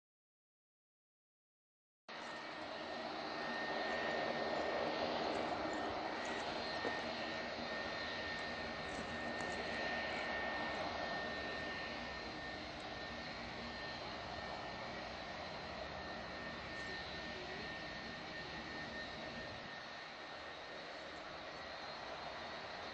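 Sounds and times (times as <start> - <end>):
high jet engine whine: 2.1 - 22.9
jet engines roaring: 2.1 - 22.9.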